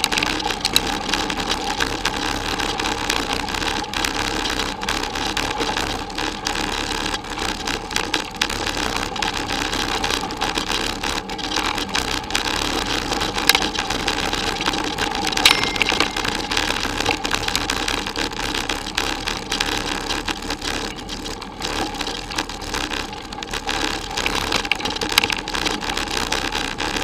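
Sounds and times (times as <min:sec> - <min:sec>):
bicycle tyres rumbling and rattling: 0:00.0 - 0:27.0.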